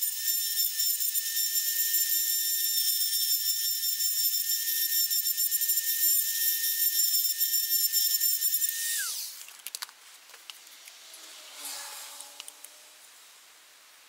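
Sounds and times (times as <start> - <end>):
rotary tool grinding whine: 0.0 - 9.5, 10.8 - 13.1.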